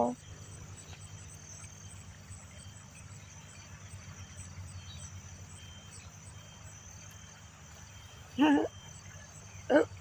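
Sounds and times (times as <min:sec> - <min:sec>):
distant machinery hum: 0:00.0 - 0:10.0
insects chirping: 0:00.0 - 0:10.0.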